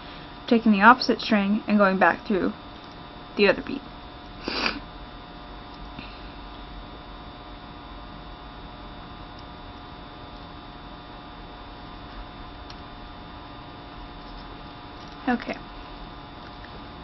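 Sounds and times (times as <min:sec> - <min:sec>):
electrical hum and hiss: 0:00.0 - 0:17.0
faint whining tones: 0:00.0 - 0:17.0.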